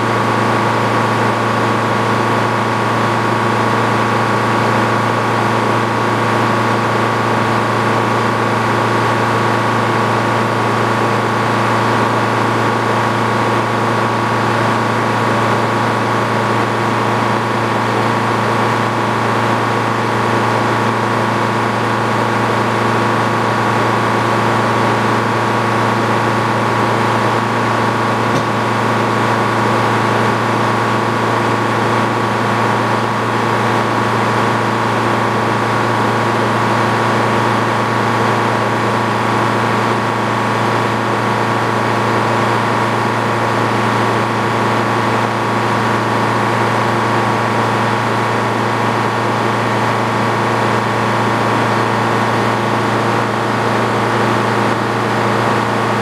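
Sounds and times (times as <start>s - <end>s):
sawmill engine droning: 0.0s - 56.0s.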